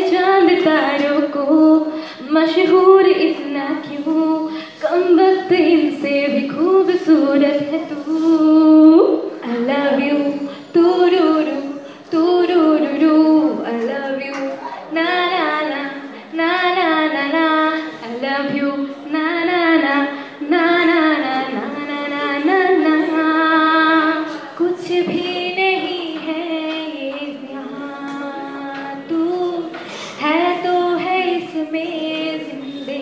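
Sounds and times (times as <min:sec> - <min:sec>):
woman singing: 0:00.0 - 0:33.0.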